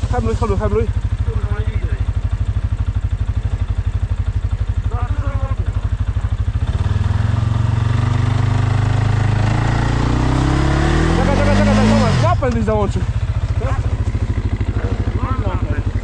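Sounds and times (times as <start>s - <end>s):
atv engine idling and revving: 0.0s - 16.0s.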